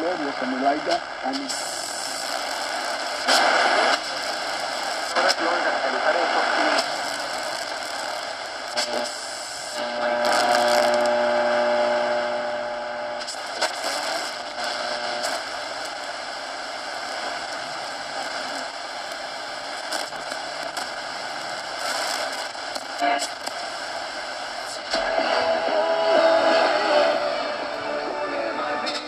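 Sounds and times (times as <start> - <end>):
radio static hissing: 0.0 - 29.0
static crackles: 0.0 - 29.0
steady radio tone: 0.0 - 29.0.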